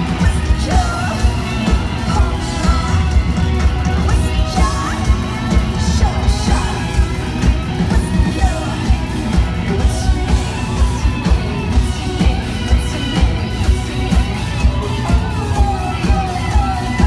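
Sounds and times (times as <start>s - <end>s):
rock band playing live: 0.0s - 17.0s
steady drum beat: 0.0s - 17.0s
woman singing and yelling: 0.0s - 17.0s.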